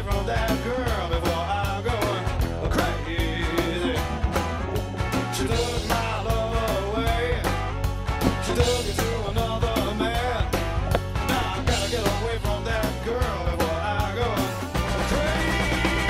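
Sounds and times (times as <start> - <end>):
rock song with singing and drums: 0.0 - 16.0.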